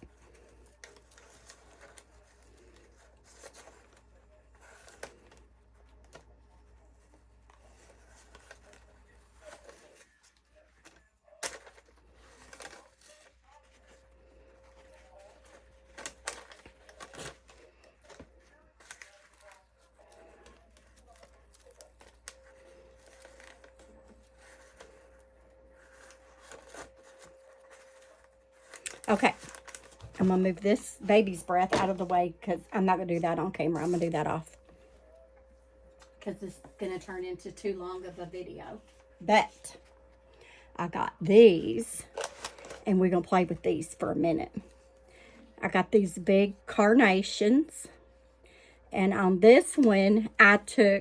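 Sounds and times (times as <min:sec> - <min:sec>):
low room hum: 0:00.0 - 0:51.0.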